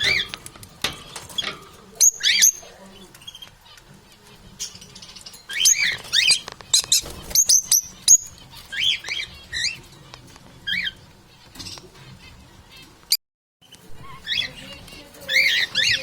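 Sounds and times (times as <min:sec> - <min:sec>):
parrots chirping and whistling: 0:00.0 - 0:13.2, 0:13.9 - 0:16.0.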